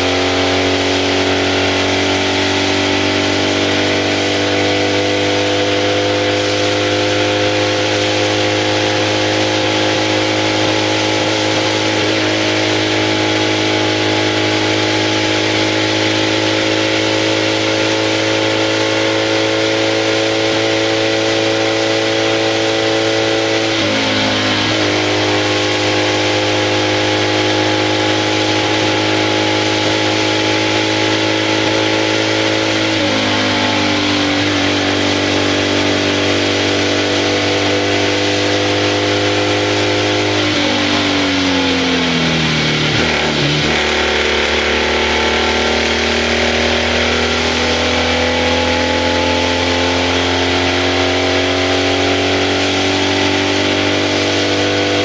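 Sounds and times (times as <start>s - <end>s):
racing car engine under load: 0.0s - 55.0s.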